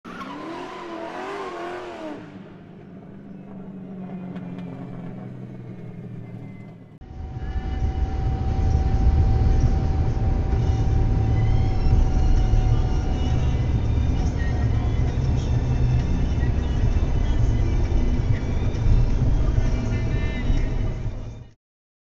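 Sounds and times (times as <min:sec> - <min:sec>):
car engine revving: 0:00.1 - 0:21.3
steady whine: 0:02.2 - 0:20.8
car driving rumble from inside: 0:02.2 - 0:21.5.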